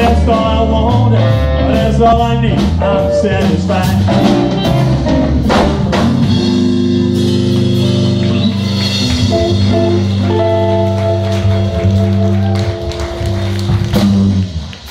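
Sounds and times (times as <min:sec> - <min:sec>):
drums and cymbals: 0:00.0 - 0:14.9
electric guitars and bass chords: 0:00.0 - 0:14.9.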